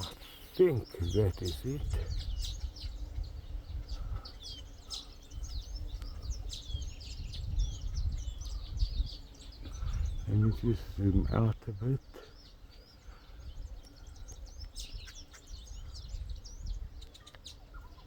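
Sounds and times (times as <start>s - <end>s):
small birds chirping and twittering: 0.0s - 18.0s.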